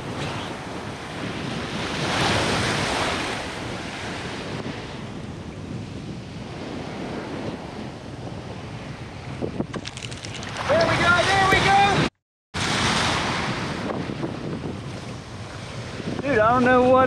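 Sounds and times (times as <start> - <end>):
sea surf breaking: 0.0 - 9.7, 10.3 - 17.0
wind buffeting microphone: 0.0 - 17.0.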